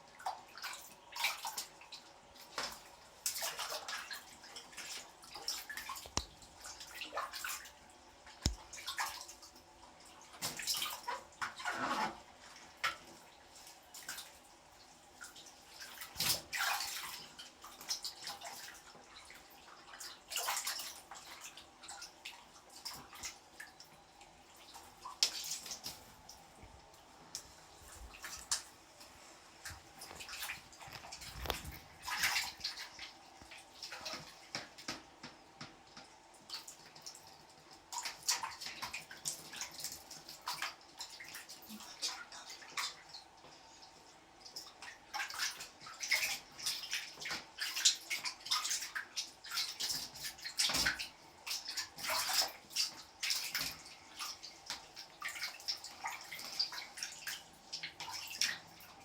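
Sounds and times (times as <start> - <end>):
water splashing and running: 0.1 - 59.0.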